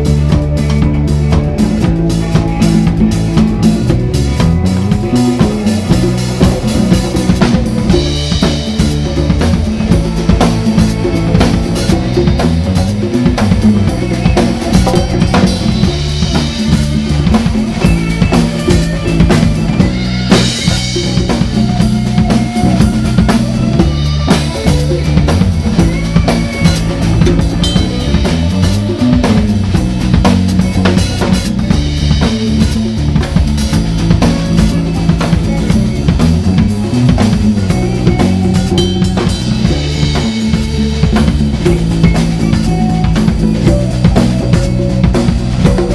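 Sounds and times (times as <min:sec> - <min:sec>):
drum kit: 0:00.0 - 0:45.9
hand-played congas: 0:00.0 - 0:45.9
live band playing a groove: 0:00.0 - 0:45.9
low bass line: 0:00.0 - 0:45.9.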